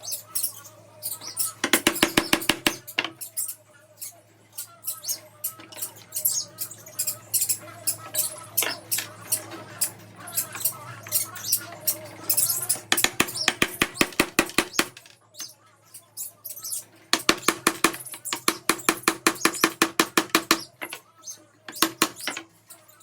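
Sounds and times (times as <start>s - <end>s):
small birds chirping and squeaking: 0.0s - 23.0s.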